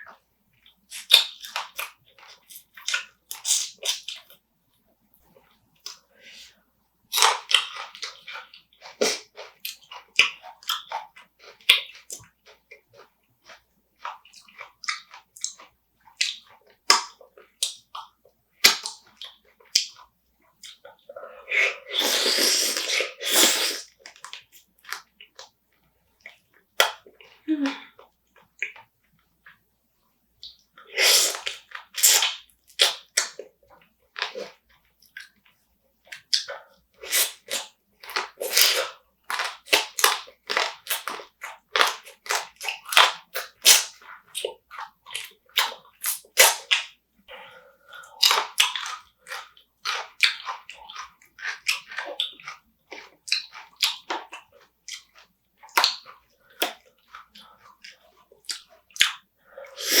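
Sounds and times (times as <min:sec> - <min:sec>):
wet chewing and crunching: 0:00.0 - 0:04.4, 0:07.1 - 0:29.6, 0:30.4 - 1:00.0.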